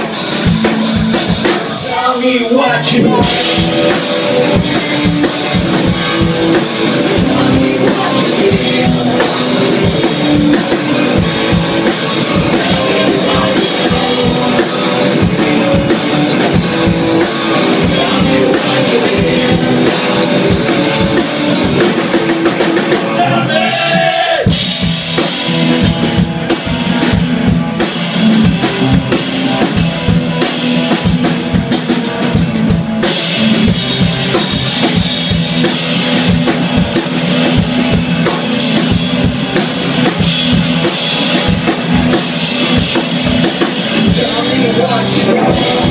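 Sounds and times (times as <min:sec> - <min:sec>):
distorted electric guitar: 0:00.0 - 0:45.9
drum kit: 0:00.0 - 0:45.9.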